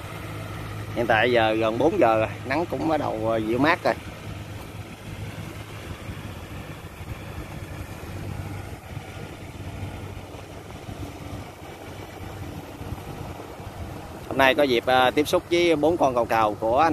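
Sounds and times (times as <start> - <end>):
diesel engine droning: 0.0 - 16.9.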